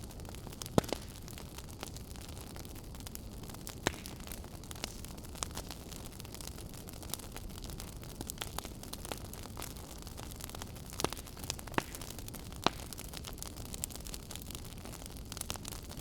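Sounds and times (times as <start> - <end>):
fire crackling: 0.0 - 16.0
low rumble of flames: 0.0 - 16.0.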